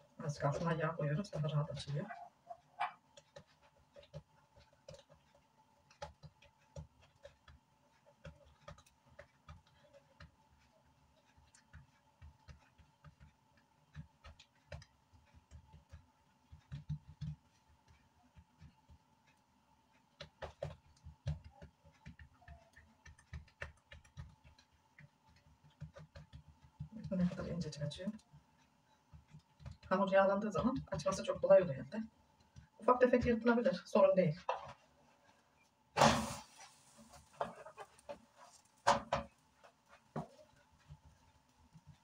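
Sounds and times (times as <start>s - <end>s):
hands patting dough: 0.0s - 42.0s.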